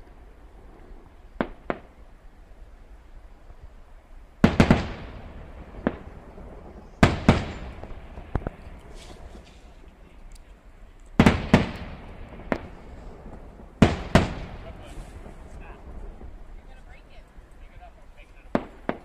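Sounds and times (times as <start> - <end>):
distant fireworks bursting: 0.0 - 19.0.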